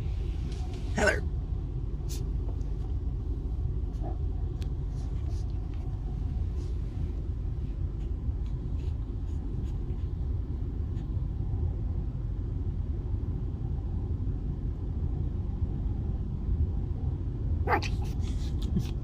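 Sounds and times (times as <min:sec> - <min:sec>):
road and engine rumble inside car: 0:00.0 - 0:19.0.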